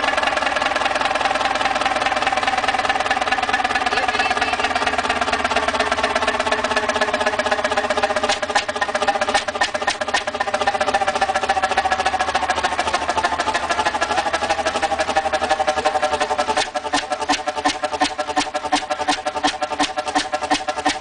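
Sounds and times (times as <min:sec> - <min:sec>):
large engine clattering: 0:00.0 - 0:21.0.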